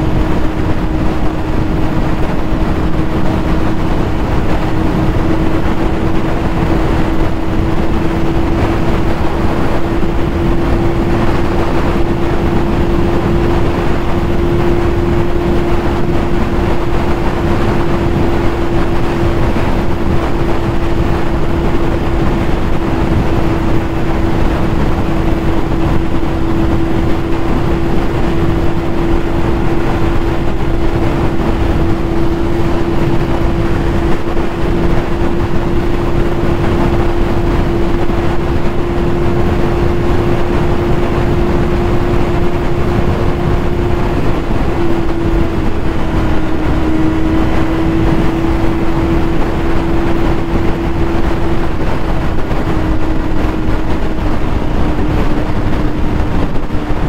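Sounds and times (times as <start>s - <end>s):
motorcycle engine at steady speed: 0.0s - 57.0s
wind rushing on microphone: 0.0s - 57.0s.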